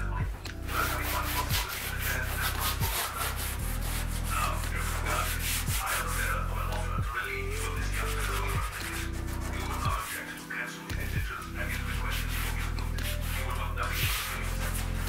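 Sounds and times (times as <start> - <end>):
sponge scrubbing countertop: 0.6 - 15.0.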